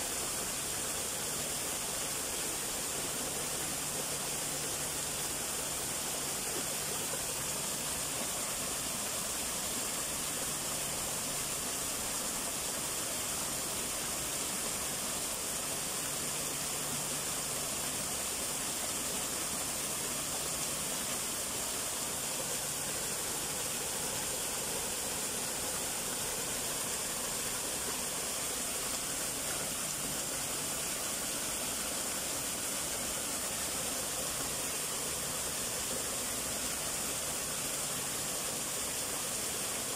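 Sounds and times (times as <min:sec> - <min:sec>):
waterfall splashing into pool: 0:00.0 - 0:39.9.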